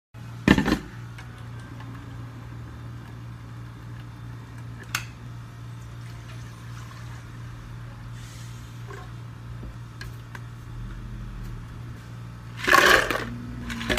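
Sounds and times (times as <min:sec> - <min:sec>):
steady low hum: 0:00.2 - 0:13.9.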